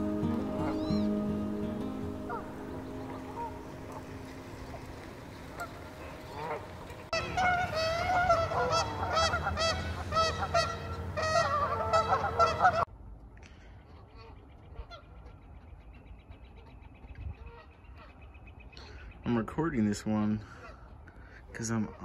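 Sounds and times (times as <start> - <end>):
geese honking: 0.0 - 12.9, 13.8 - 19.1, 20.4 - 22.0.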